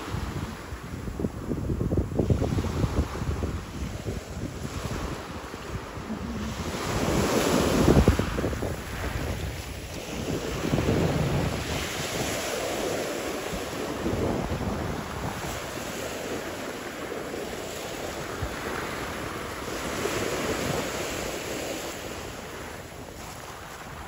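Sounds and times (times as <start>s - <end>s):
wind rumbling on microphone: 0.0s - 24.0s
waves washing onto pebbles: 2.1s - 24.0s.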